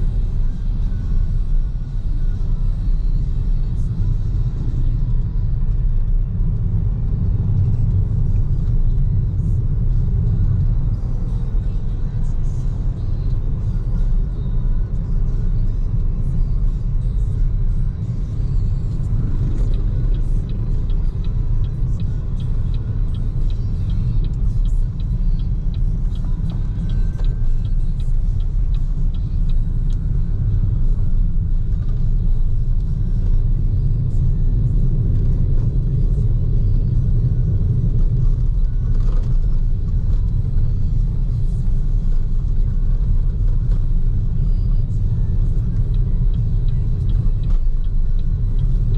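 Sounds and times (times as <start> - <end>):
road and tyre rumble: 0.0 - 48.9.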